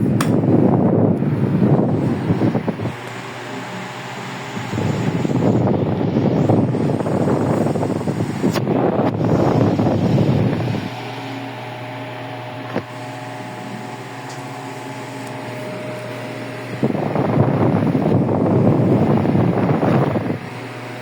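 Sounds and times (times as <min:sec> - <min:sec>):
fan air rushing: 0:00.0 - 0:21.0
fan motor hum: 0:00.0 - 0:21.0.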